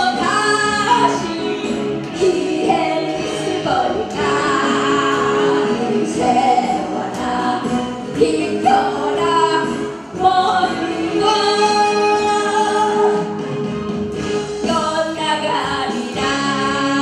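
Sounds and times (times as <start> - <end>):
woman singing into microphone: 0.0 - 13.4, 14.6 - 17.0
amplified backing track: 0.0 - 17.0.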